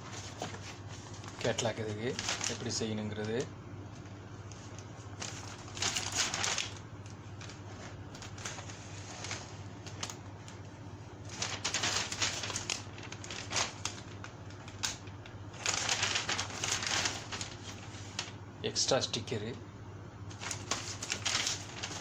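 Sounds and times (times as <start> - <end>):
packaging rustling and crinkling: 0.0 - 18.4, 20.3 - 22.0
low background hum: 0.0 - 22.0.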